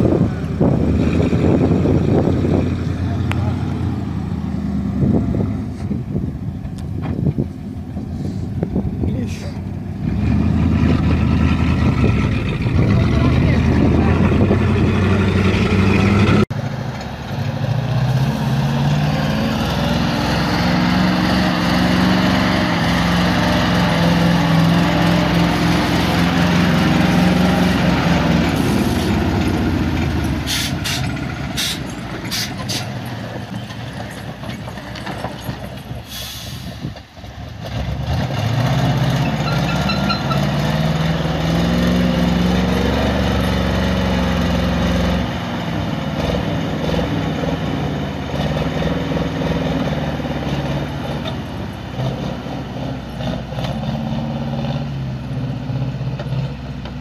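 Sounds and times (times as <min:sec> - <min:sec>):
heavy truck engines labouring: 0:00.0 - 0:57.0.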